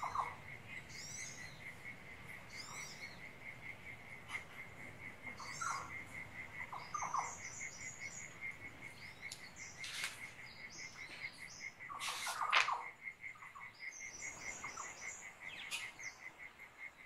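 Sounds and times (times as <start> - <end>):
birds chirping: 0.0 - 17.0
cricket chirping: 0.0 - 17.0.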